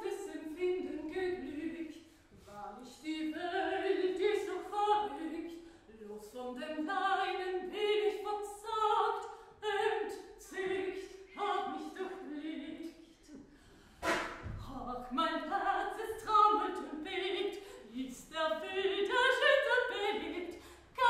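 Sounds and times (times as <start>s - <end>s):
woman singing unaccompanied: 0.0s - 13.4s, 14.6s - 21.0s.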